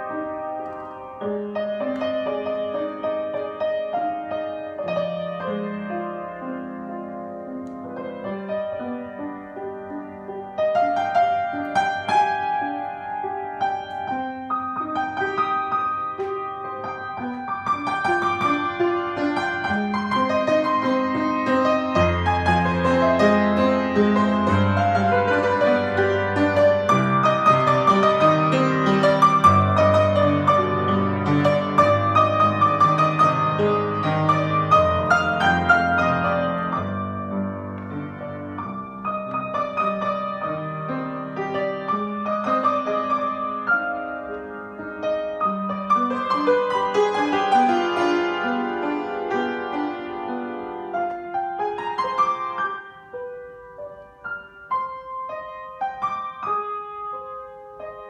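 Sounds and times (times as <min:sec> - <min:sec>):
grand piano solo: 0:00.0 - 0:58.0.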